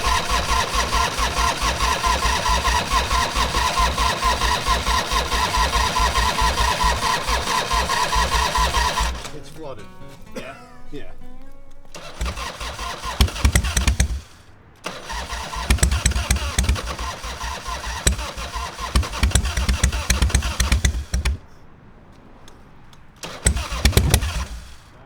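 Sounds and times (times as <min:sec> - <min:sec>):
electric starter cranking engine: 0:00.0 - 0:09.6, 0:11.3 - 0:21.6, 0:22.4 - 0:25.0.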